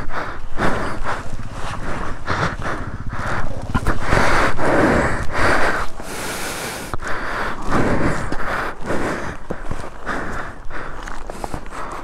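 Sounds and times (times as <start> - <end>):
heavy laboured breathing: 0.0 - 12.0.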